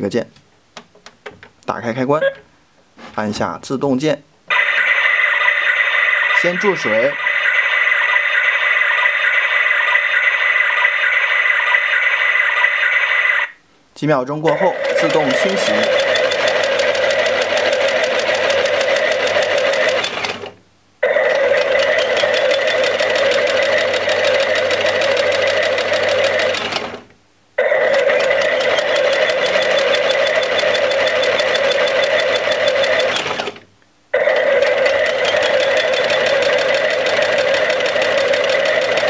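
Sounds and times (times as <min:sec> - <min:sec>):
toy washing machine whirring: 0:04.5 - 0:13.6, 0:14.5 - 0:27.0, 0:27.6 - 0:33.6, 0:34.2 - 0:39.0.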